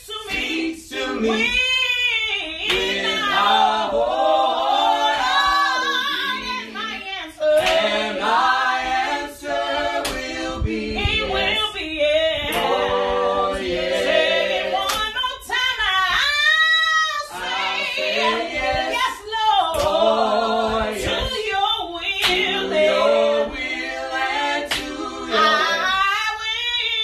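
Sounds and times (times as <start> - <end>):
group singing a cappella: 0.0 - 27.0.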